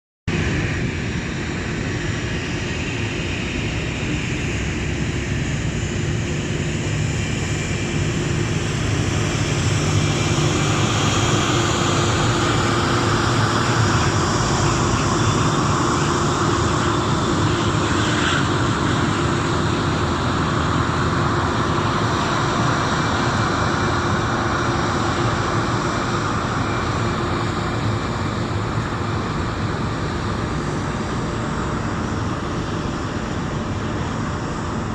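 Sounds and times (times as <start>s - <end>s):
jet engines running: 0.3s - 34.9s.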